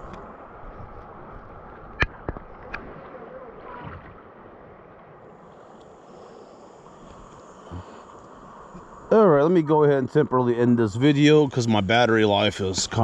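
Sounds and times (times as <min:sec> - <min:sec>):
creek water lapping: 0:00.0 - 0:13.0.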